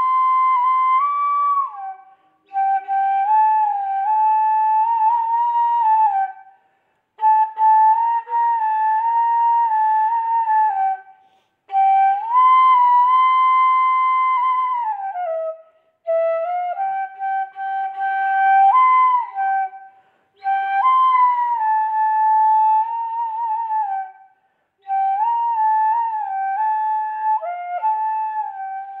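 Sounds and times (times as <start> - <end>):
solo flute melody: 0.0 - 29.0.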